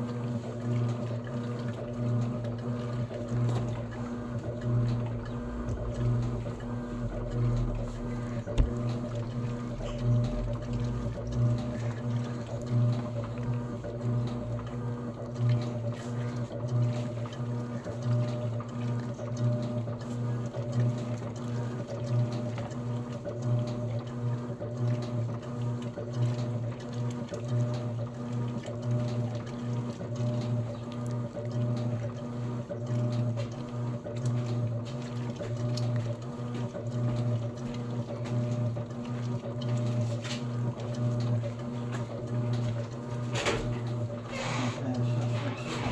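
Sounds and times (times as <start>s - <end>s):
washing machine motor hum: 0.0s - 45.9s
water sloshing: 0.0s - 45.9s.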